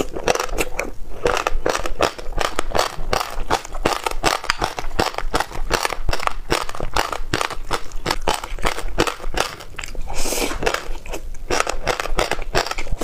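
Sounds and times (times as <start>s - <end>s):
chewing crunchy seeds: 0.0s - 13.0s.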